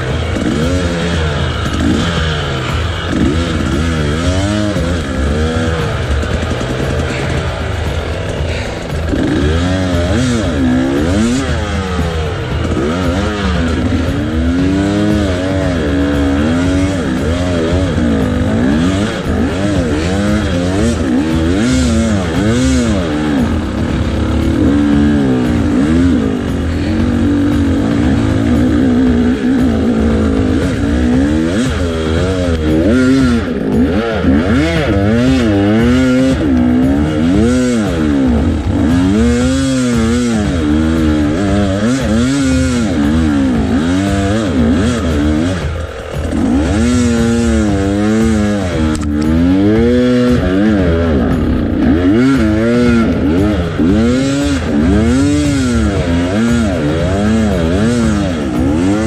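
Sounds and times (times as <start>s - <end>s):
engines revving: 0.0s - 59.0s.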